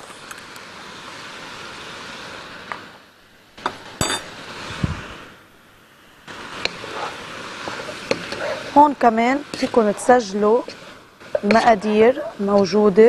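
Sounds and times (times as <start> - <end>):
food frying in a pot: 0.0 - 3.0, 3.6 - 13.0.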